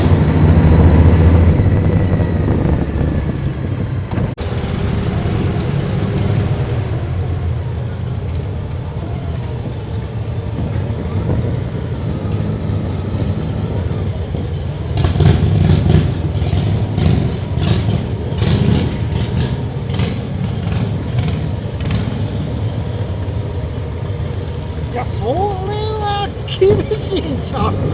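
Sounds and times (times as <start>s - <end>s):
motorcycle engine rumbling: 0.0s - 27.9s.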